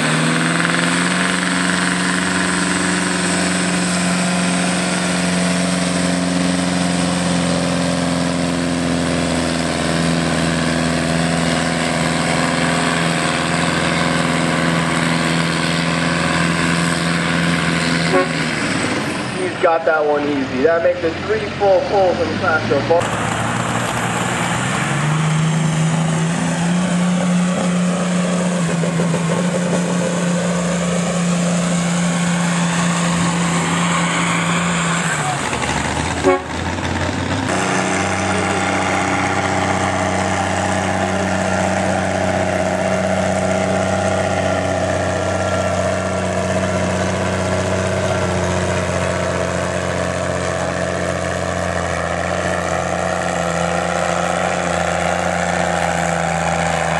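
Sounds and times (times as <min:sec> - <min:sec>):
tractor engine running steadily: 0:00.0 - 0:56.9
tractor engine under heavy load: 0:00.0 - 0:56.9.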